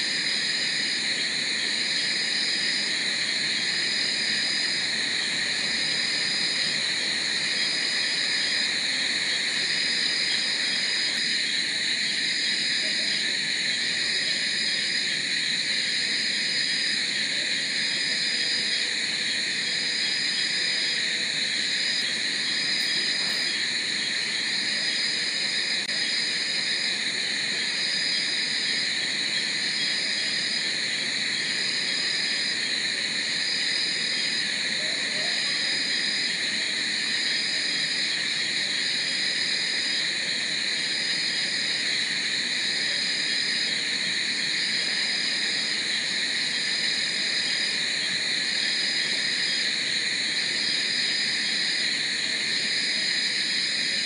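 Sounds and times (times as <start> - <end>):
insects and frogs trilling: 0.0 - 54.0.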